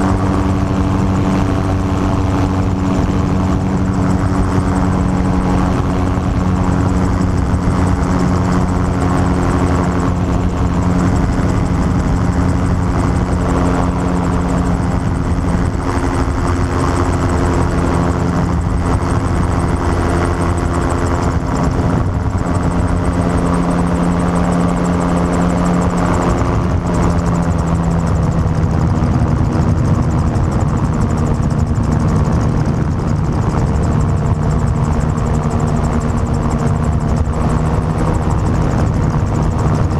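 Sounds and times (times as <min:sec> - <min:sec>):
gyrocopter engine and propeller drone: 0:00.0 - 0:39.9.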